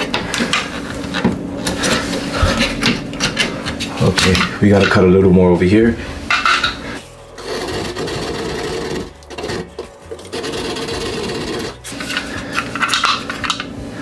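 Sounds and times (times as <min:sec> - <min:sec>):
saw rasping through drywall: 0:00.0 - 0:14.0.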